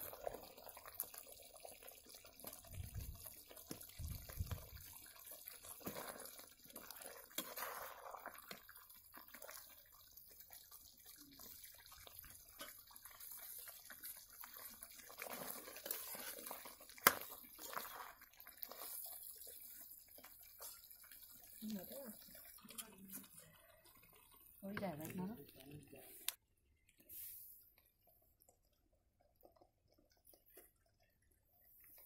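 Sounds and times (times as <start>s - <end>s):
ladle scooping and pouring gravy: 0.0s - 32.0s.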